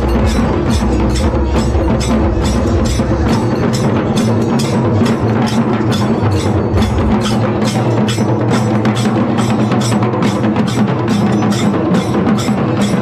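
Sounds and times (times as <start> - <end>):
drum-led music: 0.0 - 13.0.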